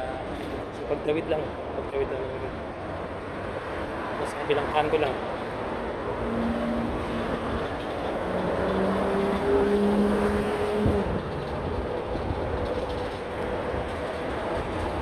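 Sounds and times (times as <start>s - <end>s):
road traffic rushing: 0.0s - 15.0s
passing vehicle low hum: 2.6s - 15.0s.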